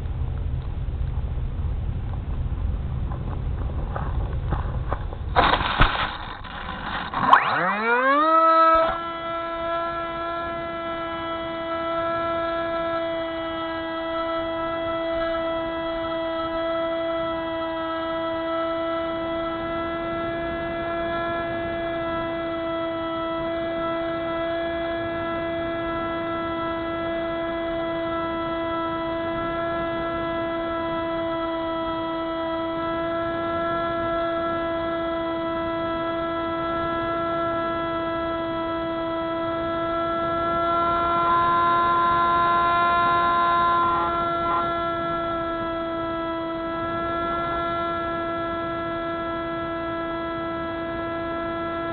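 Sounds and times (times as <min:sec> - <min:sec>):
model plane motor drone: 0:00.0 - 0:51.9.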